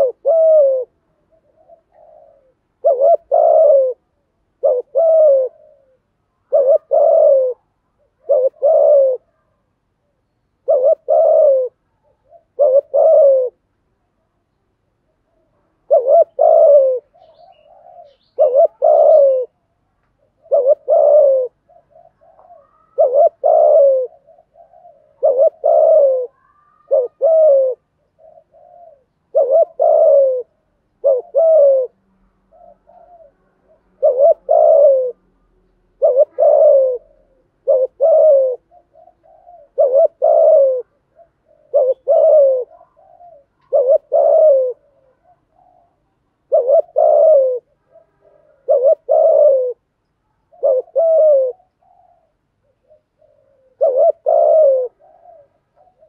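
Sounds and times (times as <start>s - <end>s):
dove cooing: 0.0s - 13.8s, 15.0s - 56.0s.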